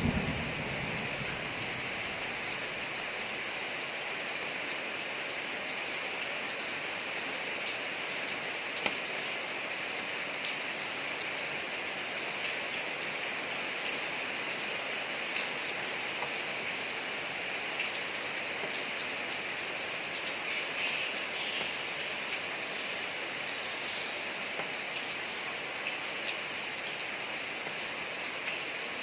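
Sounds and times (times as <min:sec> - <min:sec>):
rain falling on street: 0:00.0 - 0:29.0.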